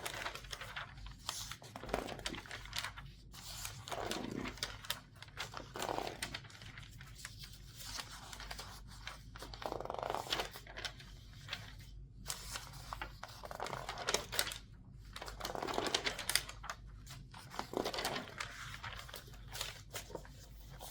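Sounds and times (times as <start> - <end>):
newspaper pages rustling: 0.0 - 20.9.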